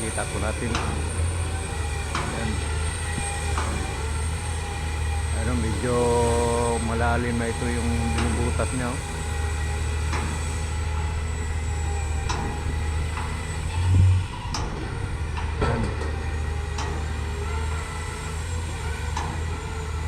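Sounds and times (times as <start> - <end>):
heavy machinery humming: 0.0 - 20.0.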